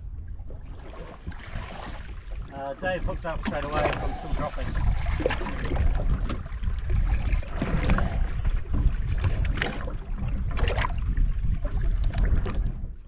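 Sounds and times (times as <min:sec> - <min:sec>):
water around a boat: 0:00.0 - 0:13.0
wind buffeting microphone: 0:00.0 - 0:13.0.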